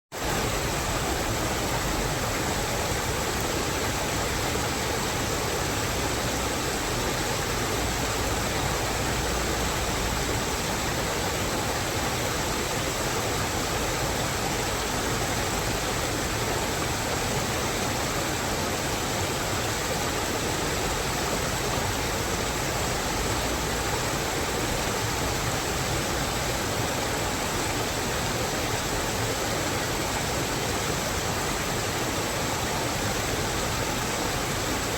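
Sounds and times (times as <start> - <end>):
water rushing: 0.1 - 34.9.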